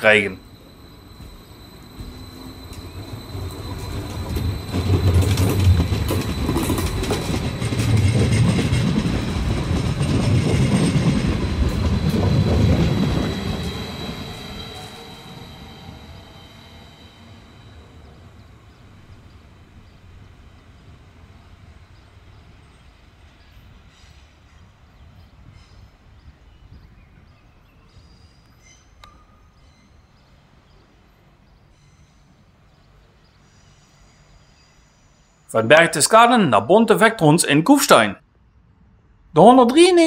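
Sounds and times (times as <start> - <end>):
electric train running past: 0.0 - 38.0.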